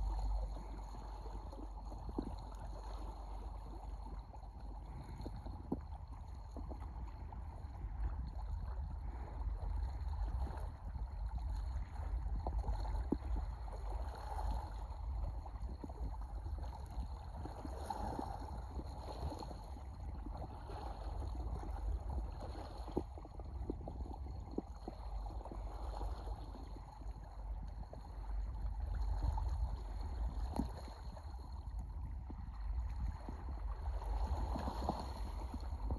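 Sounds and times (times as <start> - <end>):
water lapping: 0.0 - 35.9
wind rumbling on microphone: 0.0 - 35.9.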